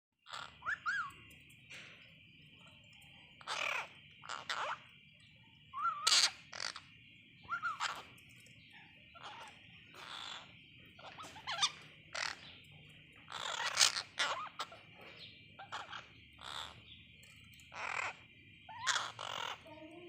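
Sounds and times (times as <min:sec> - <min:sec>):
parakeets squawking: 0:00.2 - 0:20.0.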